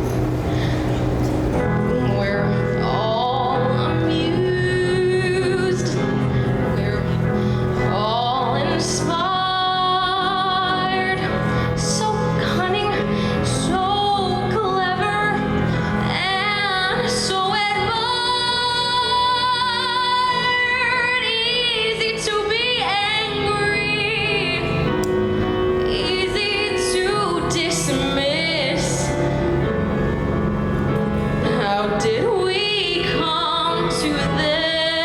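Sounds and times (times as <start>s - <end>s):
person singing with vibrato: 1.6s - 30.2s, 31.2s - 35.0s.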